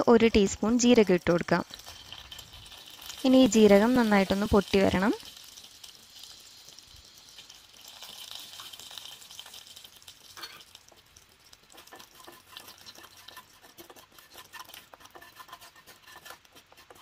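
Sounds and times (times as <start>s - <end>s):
seeds sizzling in hot oil: 0.0s - 17.0s
wooden spatula stirring in pan: 0.0s - 17.0s.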